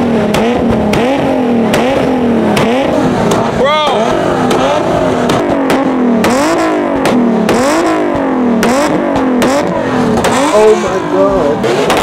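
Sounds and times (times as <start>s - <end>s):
exhaust pops: 0.0s - 10.9s, 11.6s - 12.0s
car engine revving: 0.0s - 12.0s.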